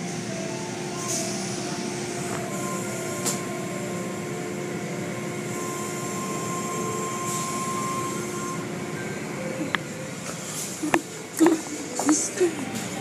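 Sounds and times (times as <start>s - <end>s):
faint machine hum: 0.0s - 13.0s.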